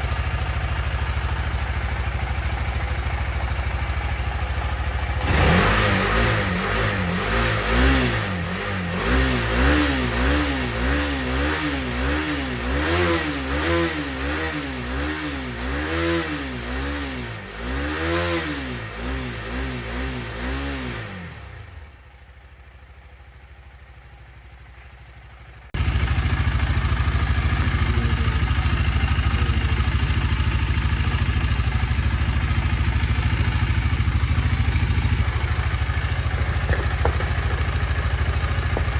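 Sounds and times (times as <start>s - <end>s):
motorcycle engine revving: 0.0s - 22.1s, 25.5s - 38.9s.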